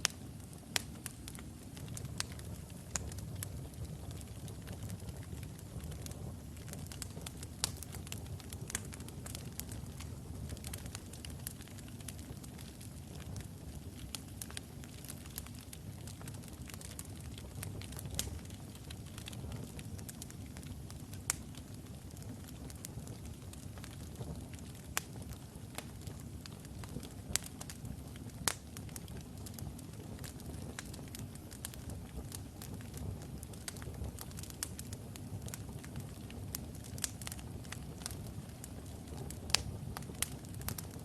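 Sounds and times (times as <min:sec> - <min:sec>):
fire crackling and popping: 0:00.0 - 0:41.0
fire rumbling: 0:00.0 - 0:41.0.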